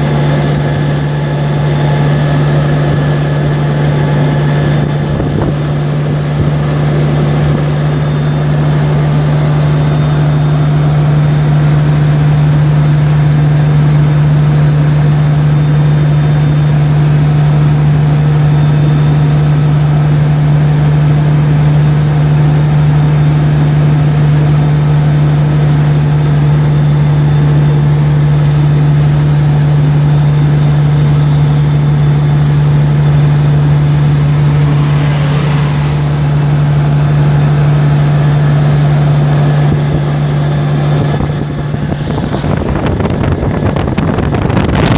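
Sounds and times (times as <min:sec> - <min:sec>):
vehicle driving on highway: 0:00.0 - 0:44.9.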